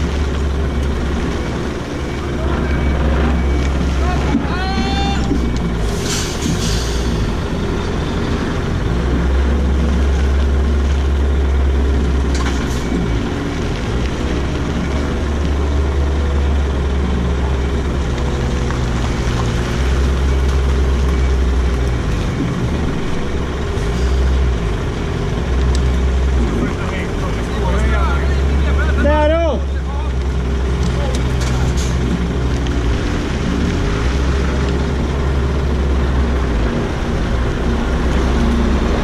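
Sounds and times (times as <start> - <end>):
diesel truck engine idling: 0.0 - 39.0.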